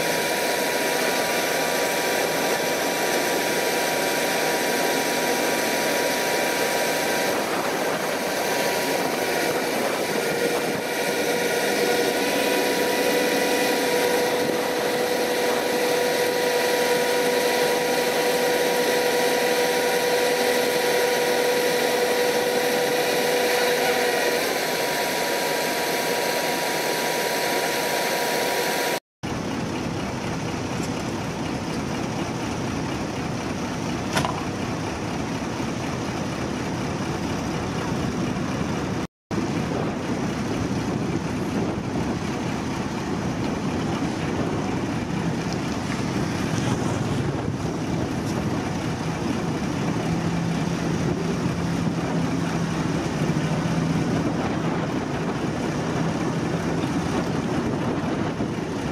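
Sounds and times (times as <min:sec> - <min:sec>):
diesel truck engines running: 0:00.0 - 0:25.6, 0:29.2 - 0:58.9
high whine: 0:00.0 - 0:58.9.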